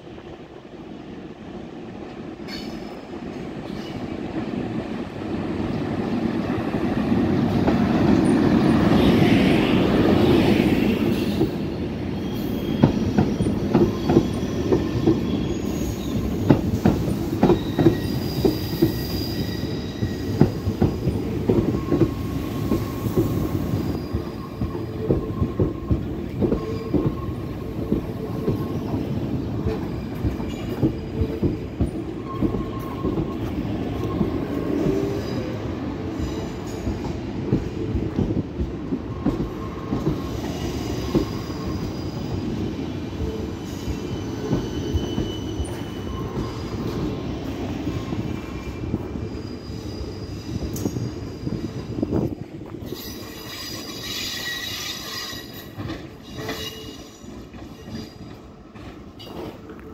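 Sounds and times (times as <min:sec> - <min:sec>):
electric locomotive rushing past: 0:03.9 - 0:59.9.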